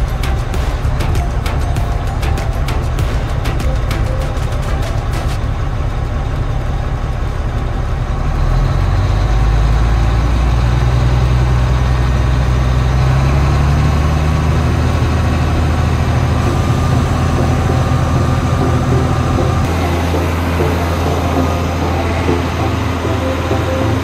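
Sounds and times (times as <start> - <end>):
heavy vehicle engine running: 0.0 - 24.0.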